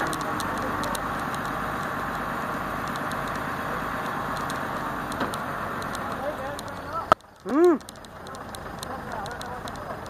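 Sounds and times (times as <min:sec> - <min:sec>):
diesel engine running steadily: 0:00.0 - 0:10.0.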